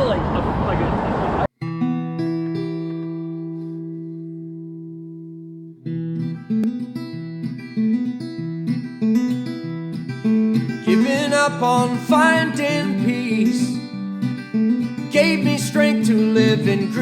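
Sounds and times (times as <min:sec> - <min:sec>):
acoustic guitar music: 0:01.5 - 0:17.0.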